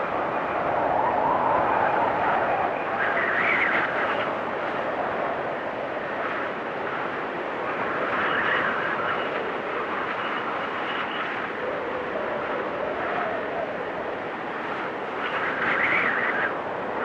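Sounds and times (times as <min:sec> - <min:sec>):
storm wind blowing: 0:00.0 - 0:17.0.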